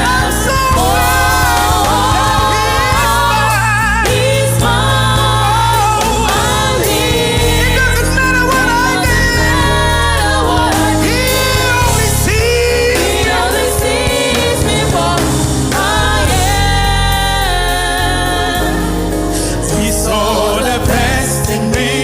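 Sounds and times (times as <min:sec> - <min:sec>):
band with steady low bass: 0:00.0 - 0:21.7
keyboard chords: 0:00.0 - 0:22.0
voices singing gospel: 0:00.0 - 0:22.0.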